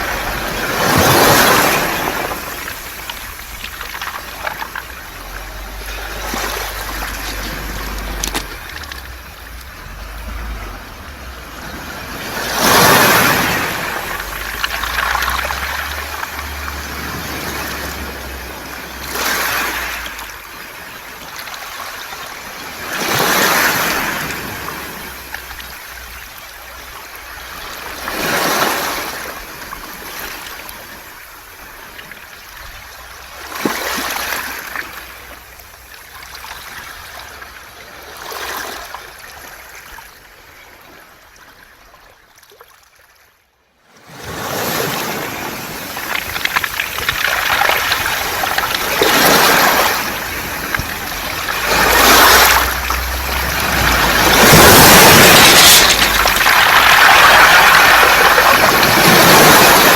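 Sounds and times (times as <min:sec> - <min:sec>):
waves washing over pebbles: 0:00.0 - 0:40.8, 0:44.0 - 0:59.9.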